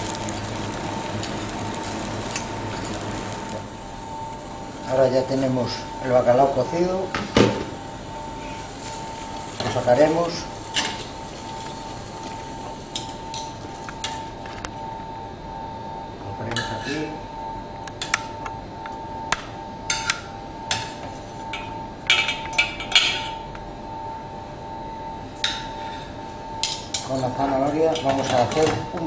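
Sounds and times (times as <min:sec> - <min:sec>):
steady thin hum: 0:00.0 - 0:29.0.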